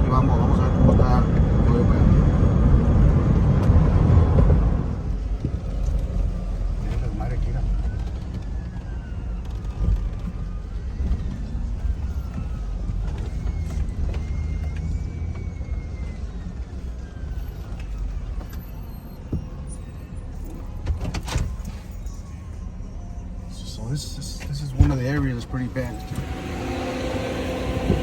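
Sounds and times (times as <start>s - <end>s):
truck engine and road rumble: 0.0s - 28.0s.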